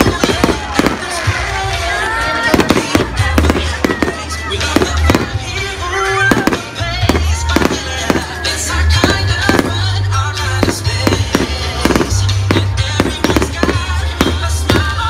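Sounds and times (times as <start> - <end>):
fireworks exploding: 0.0 - 15.0
music playing: 0.0 - 15.0.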